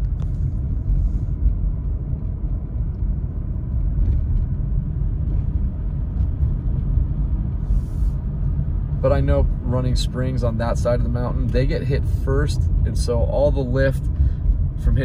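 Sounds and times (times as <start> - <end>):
car engine rumble from inside: 0.0 - 15.0.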